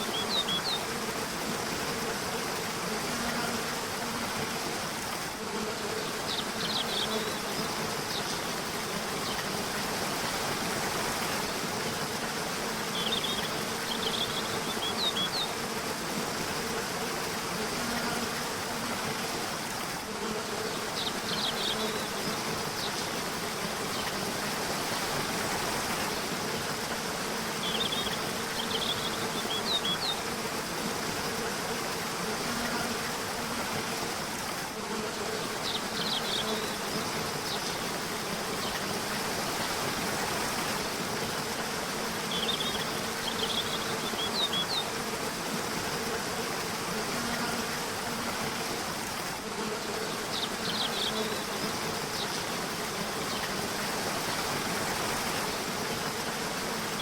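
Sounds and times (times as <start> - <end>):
rushing river: 0.0 - 57.0.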